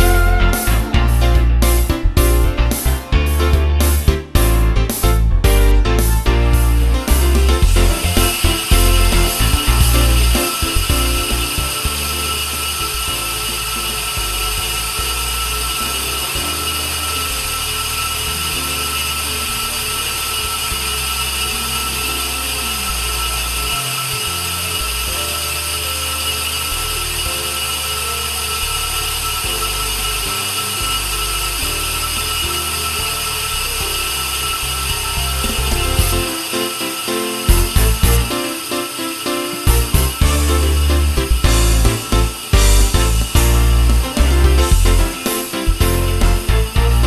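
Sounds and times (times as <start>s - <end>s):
brake disc lathe cutting whine: 0.0s - 3.0s, 6.6s - 47.0s.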